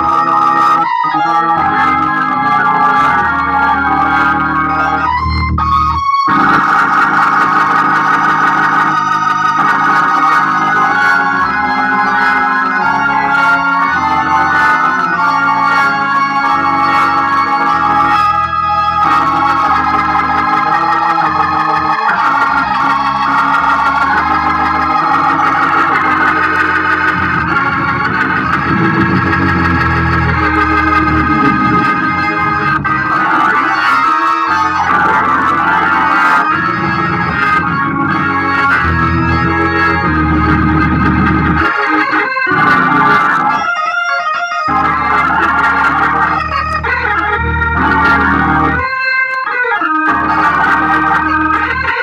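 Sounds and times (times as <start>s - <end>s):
organ bass line: 0.0s - 52.0s
organ chords through rotating speaker: 0.0s - 52.0s.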